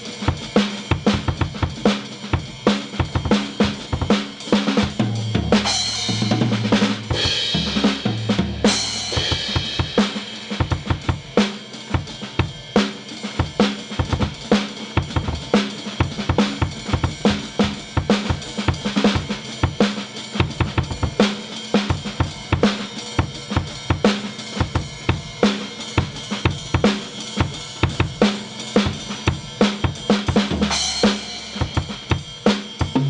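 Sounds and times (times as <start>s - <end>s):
drum kit beat: 0.0s - 33.0s
cymbal crashes: 5.6s - 33.0s.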